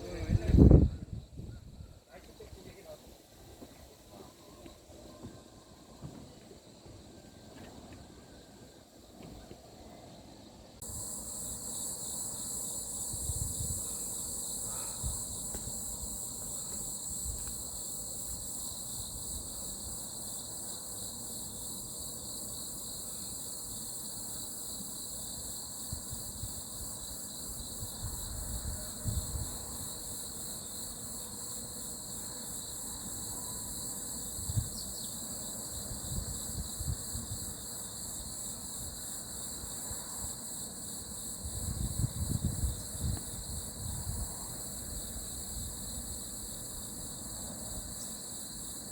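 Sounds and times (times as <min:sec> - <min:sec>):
crickets and insects trilling: 0:00.0 - 0:48.9.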